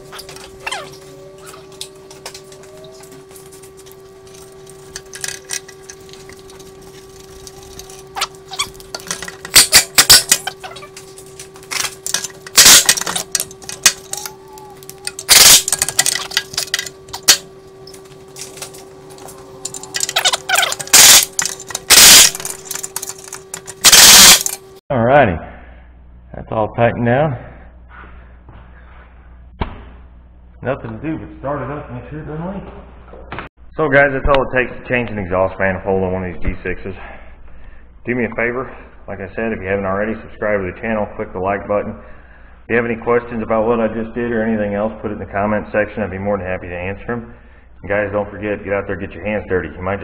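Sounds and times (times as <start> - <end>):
faint hum: 0.0 - 50.0.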